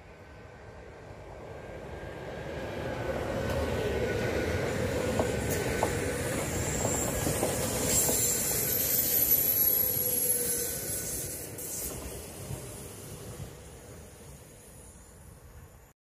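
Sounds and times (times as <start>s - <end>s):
train wheels rumbling on rail: 1.1s - 15.7s.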